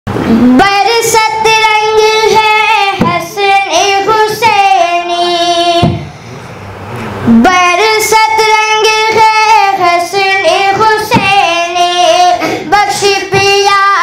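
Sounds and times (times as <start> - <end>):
boy singing unaccompanied: 0.3 - 6.1, 7.3 - 14.0.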